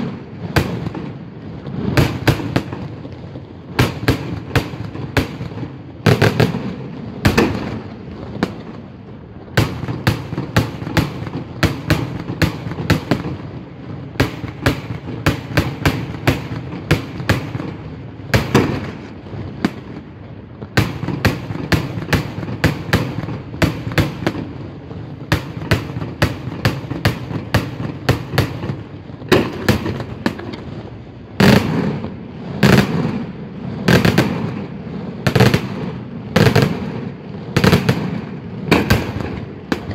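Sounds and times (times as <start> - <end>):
fireworks bursting with sharp bangs: 0.0 - 39.9.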